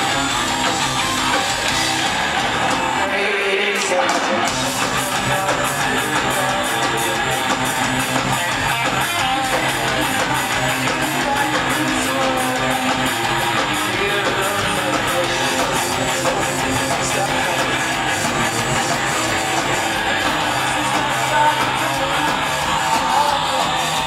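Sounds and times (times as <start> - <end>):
bass guitar: 0.0 - 24.0
drums and cymbals: 0.0 - 24.0
electric guitars: 0.0 - 24.0.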